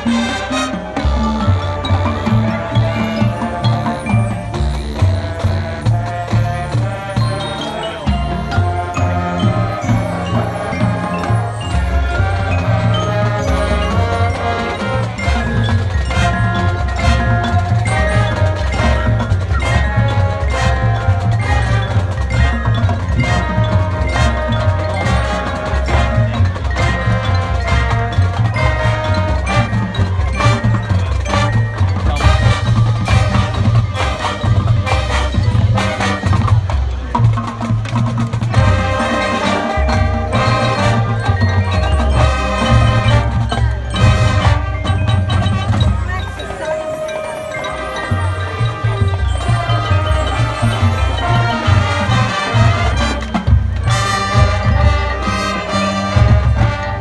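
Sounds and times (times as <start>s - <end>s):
marching band playing: 0.0s - 57.0s
marimbas and vibraphones ringing: 0.0s - 57.0s.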